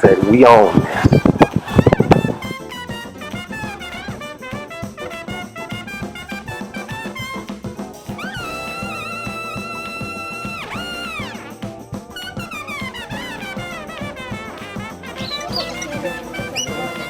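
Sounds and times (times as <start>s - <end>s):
jazzy instrumental music: 0.0s - 17.0s.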